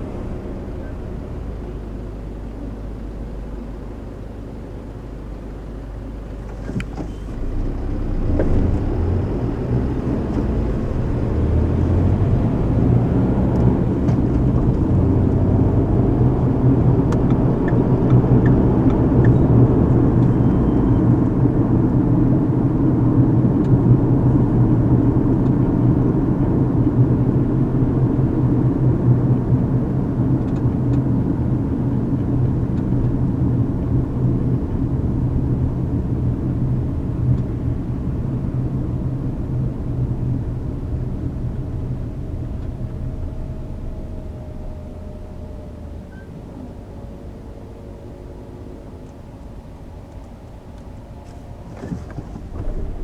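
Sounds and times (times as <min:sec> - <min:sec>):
car engine hum: 0:00.0 - 0:53.0.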